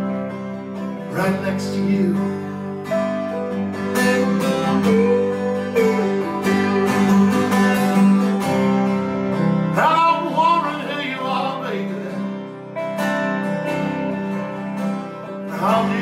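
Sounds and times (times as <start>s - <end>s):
acoustic guitar strumming: 0.0s - 16.0s
guitar lead with bending notes: 0.0s - 16.0s.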